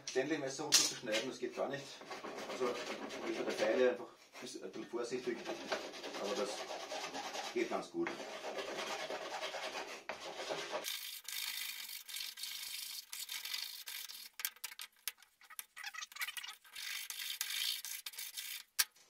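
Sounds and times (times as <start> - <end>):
hand scraping and rubbing wood: 1.1 - 19.0.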